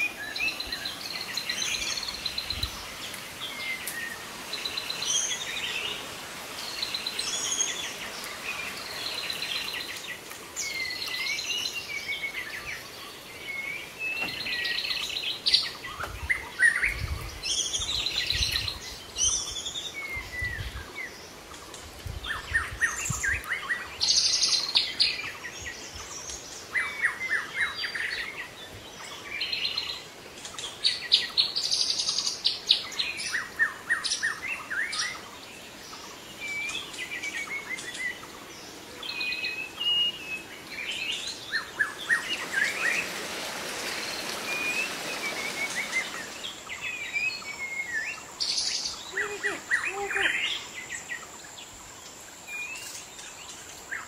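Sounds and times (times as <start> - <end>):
birds singing and calling: 0.0 - 54.0.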